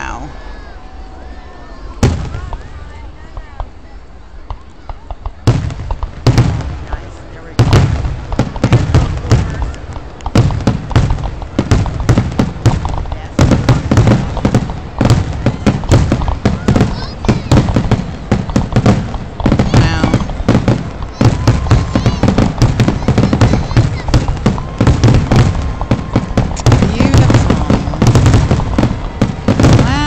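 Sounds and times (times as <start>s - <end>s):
fireworks bursting: 0.0s - 30.0s
fireworks crackling: 0.0s - 30.0s.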